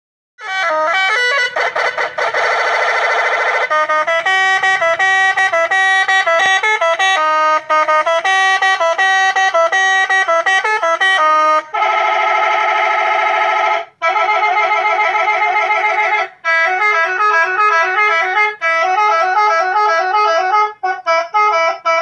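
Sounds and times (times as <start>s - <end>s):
multi-tone bus horn melody: 0.4s - 22.0s.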